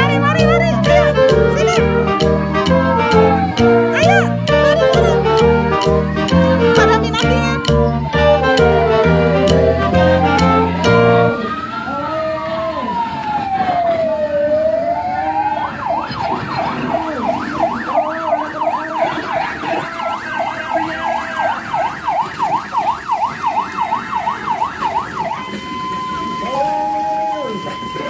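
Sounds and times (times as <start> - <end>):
electronic siren wailing and yelping: 0.0 - 5.8, 6.7 - 28.0.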